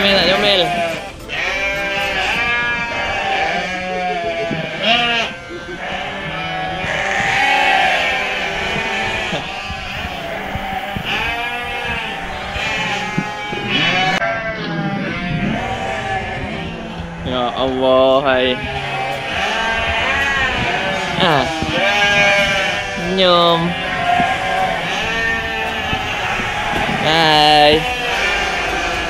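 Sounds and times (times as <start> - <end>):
sheep and goats bleating: 0.0 - 29.0.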